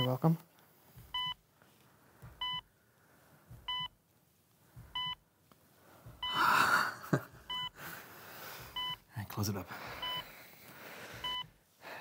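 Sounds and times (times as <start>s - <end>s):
heart monitor beeping: 0.0s - 12.0s.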